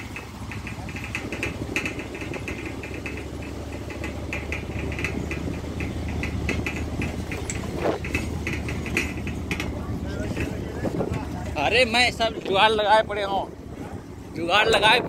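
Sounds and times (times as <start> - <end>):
rattling and clicking: 0.0 - 15.0
vehicle engine humming: 0.0 - 15.0.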